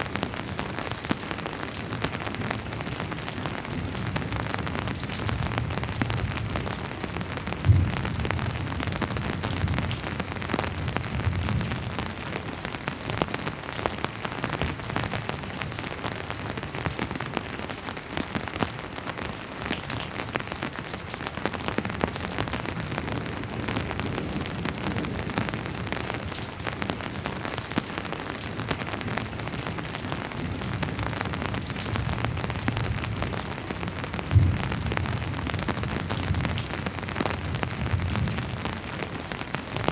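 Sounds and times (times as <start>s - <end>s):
rain spattering on surfaces: 0.0s - 39.9s.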